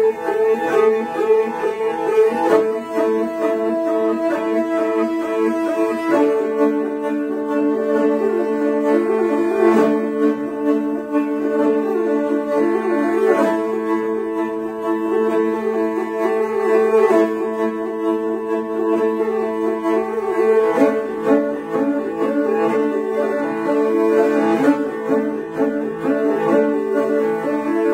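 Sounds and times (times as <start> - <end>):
bowed fiddles duet: 0.0 - 27.9.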